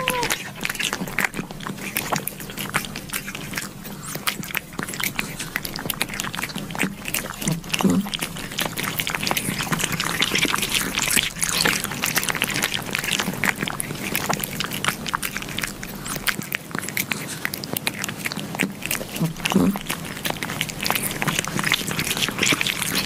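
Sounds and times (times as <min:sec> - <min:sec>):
cats licking wet clicks: 0:00.0 - 0:23.0.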